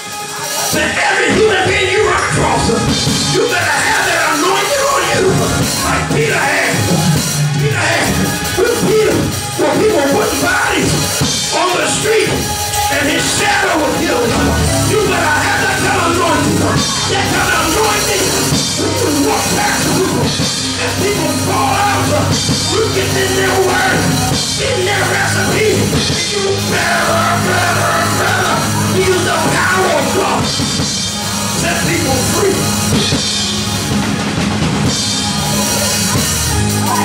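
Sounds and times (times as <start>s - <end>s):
drums: 0.0s - 37.0s
live church music: 0.0s - 37.0s
man shouting and singing: 0.4s - 7.0s, 7.6s - 30.6s, 31.5s - 33.0s.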